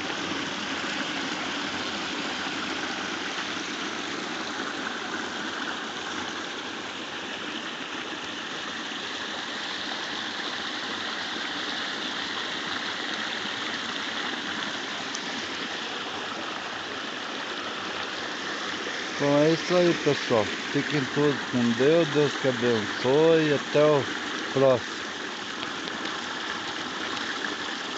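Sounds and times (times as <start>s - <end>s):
small waterfall and stream rushing: 0.0s - 27.9s.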